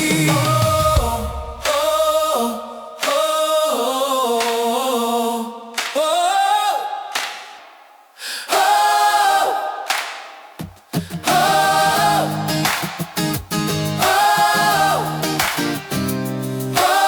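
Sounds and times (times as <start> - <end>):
wordless a cappella singing: 0.0 - 17.0.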